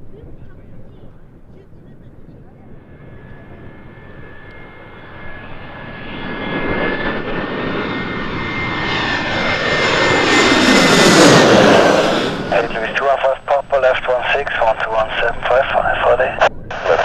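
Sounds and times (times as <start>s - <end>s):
jet aircraft approaching: 0.1s - 17.0s
high steady whine: 2.4s - 17.0s.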